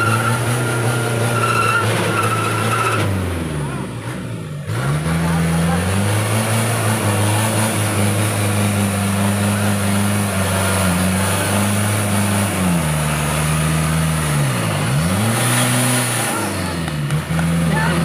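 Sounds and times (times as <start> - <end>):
diesel engine revving under load: 0.0 - 18.0
truck churning in mud and water: 0.0 - 18.0.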